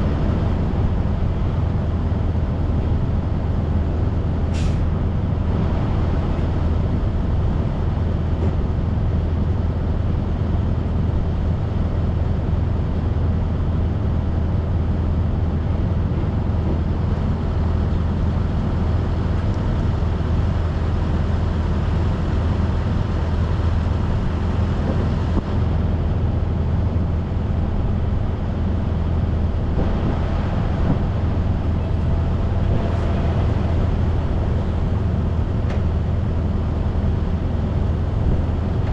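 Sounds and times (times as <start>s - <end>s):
road noise: 0.0s - 38.9s
truck engine drone: 0.0s - 38.9s.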